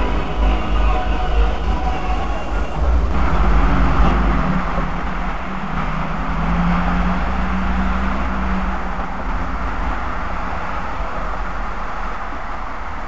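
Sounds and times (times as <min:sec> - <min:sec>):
low hum: 0:00.0 - 0:13.0
vehicle rumble and road noise: 0:00.0 - 0:13.0.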